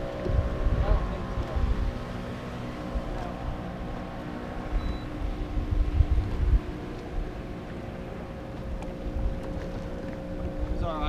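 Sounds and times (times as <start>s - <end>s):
boat engine hum: 0.0s - 11.0s
wind buffeting the microphone: 0.0s - 11.0s.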